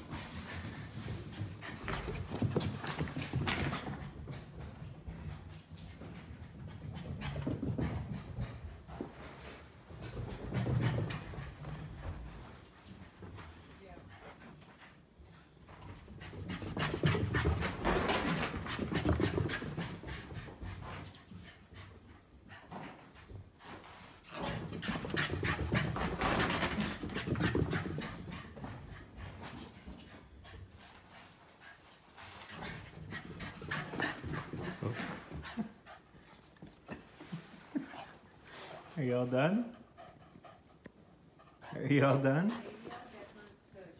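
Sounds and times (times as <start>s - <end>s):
dog panting fast: 0.0s - 43.6s.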